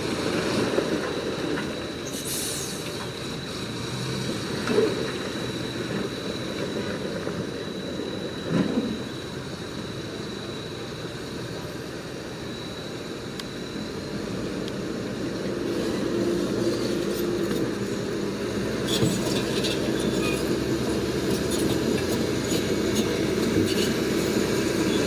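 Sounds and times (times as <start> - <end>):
bulldozer diesel engine: 0.0 - 25.0.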